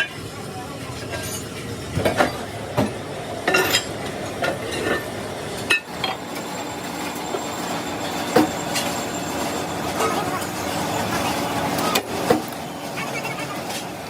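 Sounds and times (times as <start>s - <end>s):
workshop machine noise: 0.0s - 14.0s.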